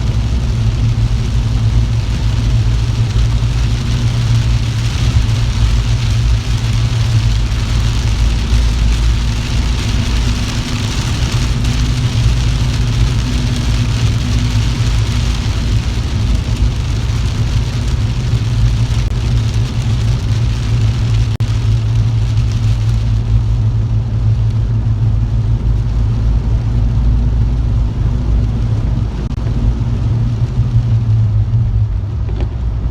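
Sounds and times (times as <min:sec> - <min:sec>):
tyres hissing on wet road: 0:00.0 - 0:32.8
car engine and road drone: 0:00.0 - 0:32.9.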